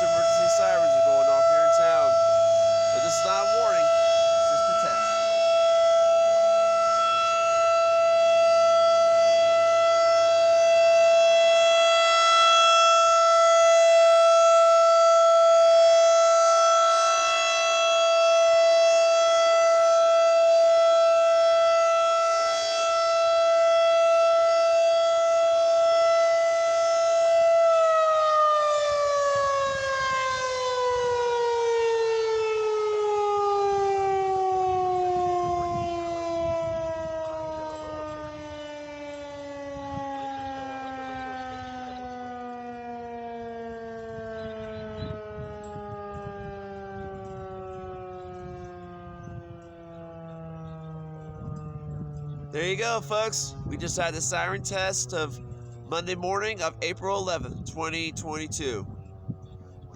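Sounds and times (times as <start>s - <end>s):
tornado siren steady tone: 0.0s - 59.9s.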